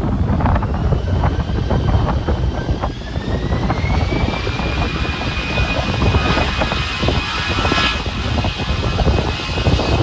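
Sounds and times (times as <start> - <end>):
jet engines whining: 0.0 - 10.0
wind on microphone: 0.0 - 10.0.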